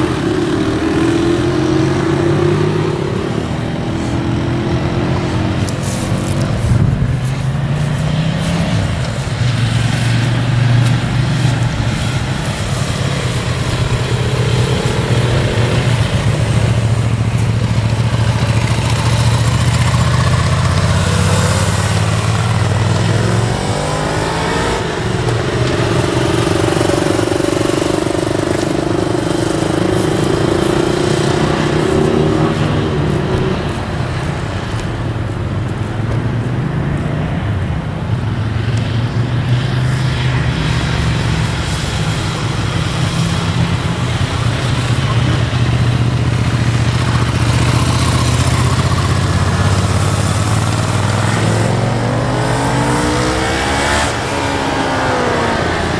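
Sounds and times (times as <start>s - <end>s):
motorcycle engine running: 0.0s - 39.0s, 39.6s - 55.9s.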